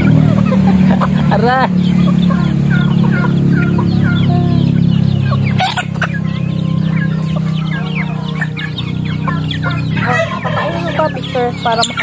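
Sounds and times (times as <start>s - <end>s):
chicks clucking and peeping: 0.0s - 12.0s.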